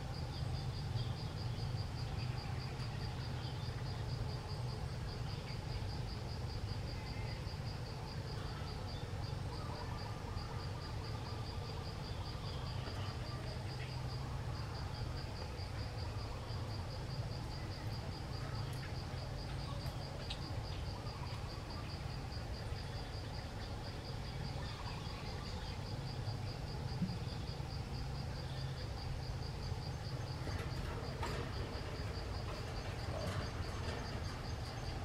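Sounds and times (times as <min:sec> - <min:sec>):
constant low rumble: 0:00.0 - 0:35.0
insect chirping: 0:00.0 - 0:35.0.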